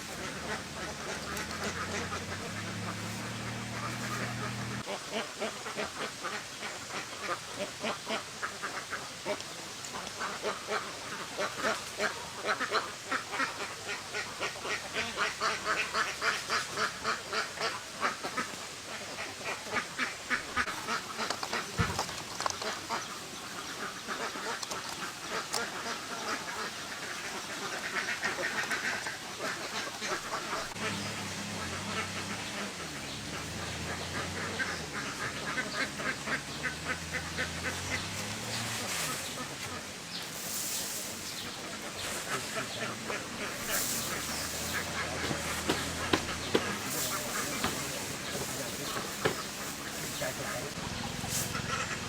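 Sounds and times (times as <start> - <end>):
ducks quacking: 0.0 - 52.0.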